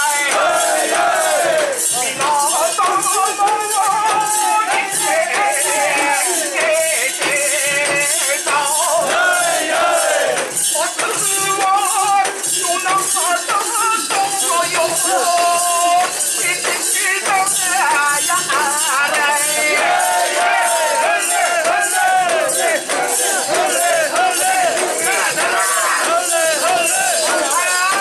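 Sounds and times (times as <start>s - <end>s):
crowd: 0.0s - 28.0s
ornamented festival melody: 0.0s - 28.0s
rattling jangling beat: 0.0s - 28.0s.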